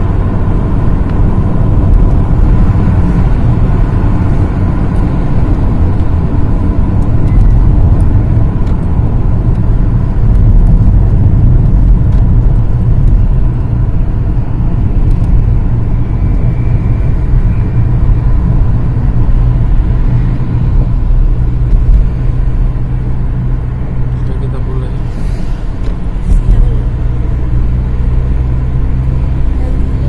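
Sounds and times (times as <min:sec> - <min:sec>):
car driving road noise: 0:00.0 - 0:30.0.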